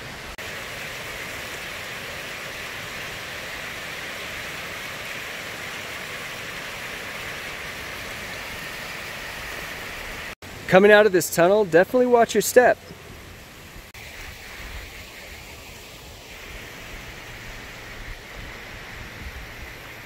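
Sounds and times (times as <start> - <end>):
water cascading over rocks: 0.0 - 20.0.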